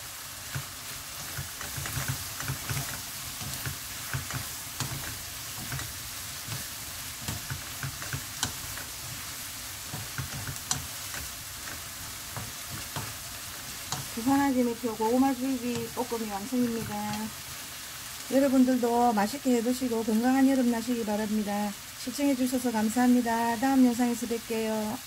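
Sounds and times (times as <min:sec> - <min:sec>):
stems sizzling in frying pan: 0:00.0 - 0:25.0.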